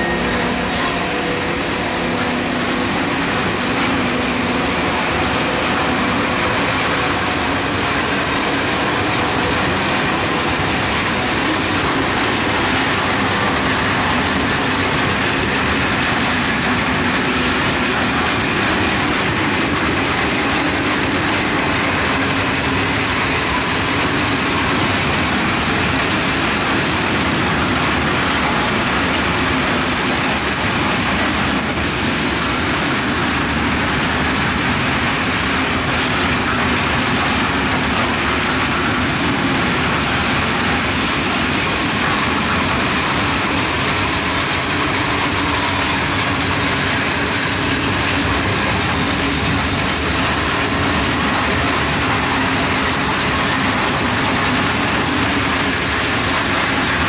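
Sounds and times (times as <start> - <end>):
thin high wheel squeal: 0.0 - 57.0
train wheels rolling on rails: 0.0 - 57.0.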